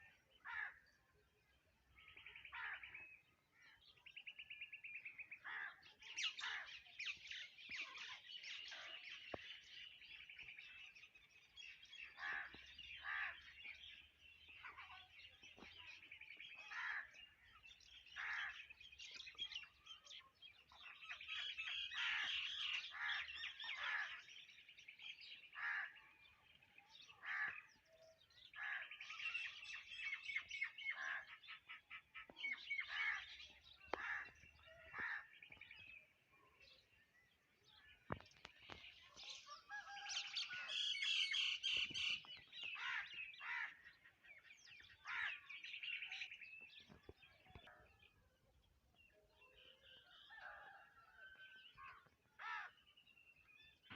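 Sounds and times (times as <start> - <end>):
wild birds chirping: 0.0 - 53.9.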